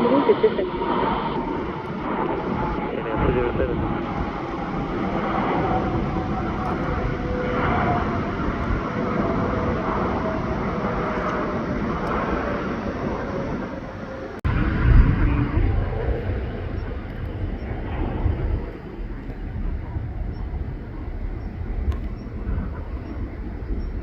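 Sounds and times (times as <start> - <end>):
jet engines with whining tone: 0.0 - 24.0
low rumble: 0.0 - 24.0.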